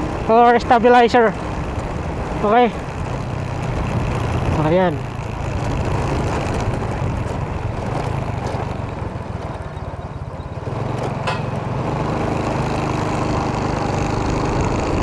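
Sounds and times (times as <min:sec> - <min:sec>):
motorcycle engine running: 0:00.0 - 0:15.0
rushing road noise: 0:00.0 - 0:15.0.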